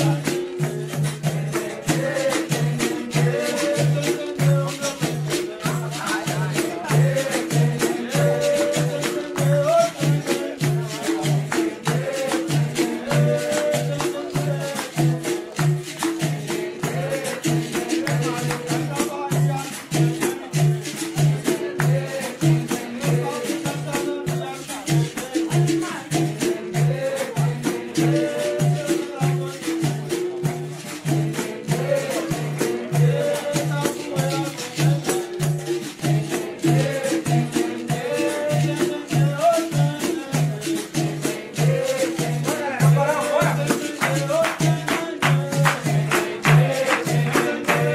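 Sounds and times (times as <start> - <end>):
berimbau: 0.0 - 47.9
shaker rattling: 0.0 - 47.9
sharp percussion strokes: 0.0 - 47.9
tambourine jingle: 0.0 - 47.9
voices singing: 0.0 - 47.9.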